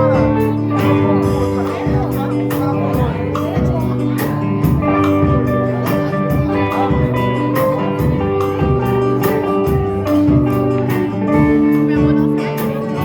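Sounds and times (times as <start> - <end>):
drum and cymbal hits: 0.0 - 13.0
electric guitar: 0.0 - 13.0.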